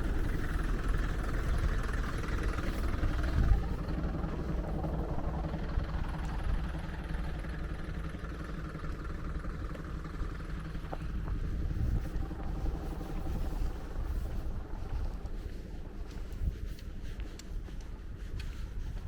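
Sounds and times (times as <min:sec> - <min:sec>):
cable car cabin rumble: 0:00.0 - 0:19.0.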